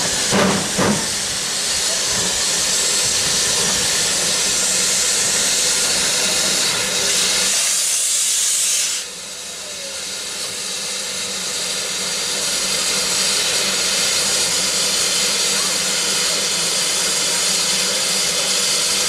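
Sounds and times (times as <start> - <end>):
steam locomotive venting steam: 0.0 - 19.0.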